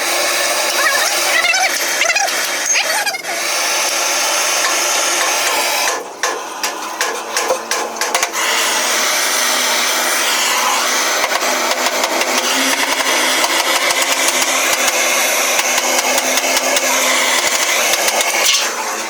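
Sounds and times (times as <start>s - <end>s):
workshop machine whirring: 0.0s - 19.0s.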